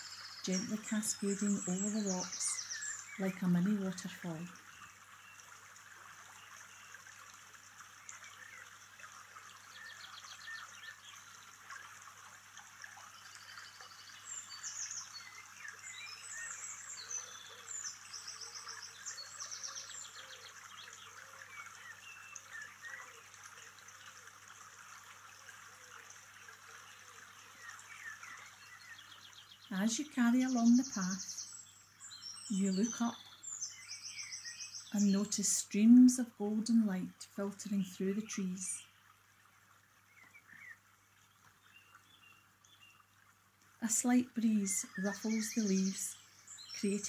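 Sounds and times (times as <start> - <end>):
songbirds chirping: 0.0 - 47.0
stream trickling over rocks: 0.0 - 47.0.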